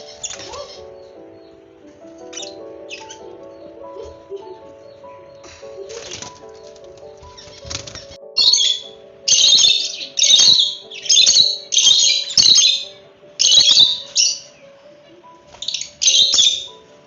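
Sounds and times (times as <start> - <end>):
chicks peeping: 0.0 - 14.7, 15.4 - 16.8.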